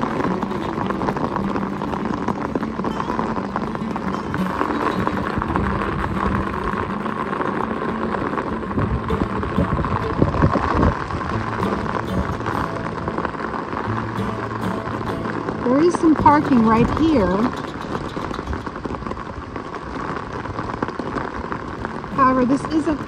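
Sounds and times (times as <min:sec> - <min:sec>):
footsteps on wet pavement: 0:00.0 - 0:23.0
rain falling: 0:00.0 - 0:23.0.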